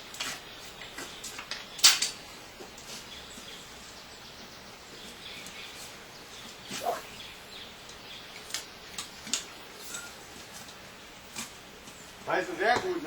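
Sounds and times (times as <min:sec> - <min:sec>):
distant bird calls: 0:00.0 - 0:13.0.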